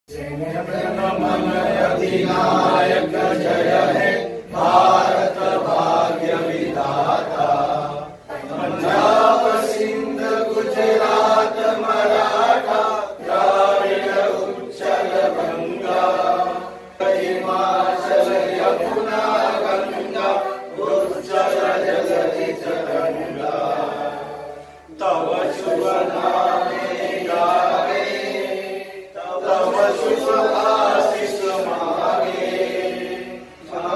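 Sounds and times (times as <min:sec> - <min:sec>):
men singing in unison: 0:00.1 - 0:33.9.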